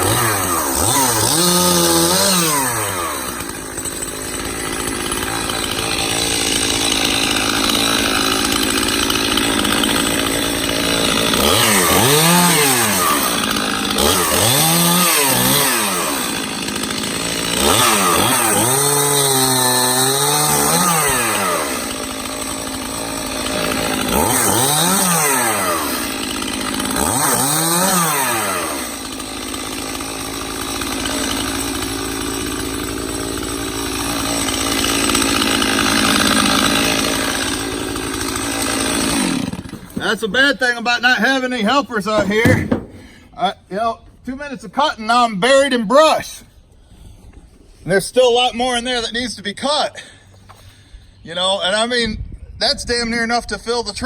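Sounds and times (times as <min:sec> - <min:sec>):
chainsaw revving and cutting: 0:00.0 - 0:43.5.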